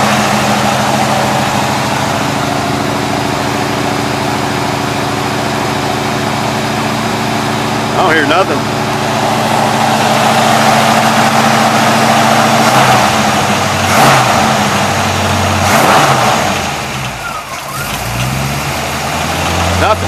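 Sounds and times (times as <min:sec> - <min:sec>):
car engine running: 0:00.0 - 0:20.0
engine throttle swells: 0:00.0 - 0:20.0.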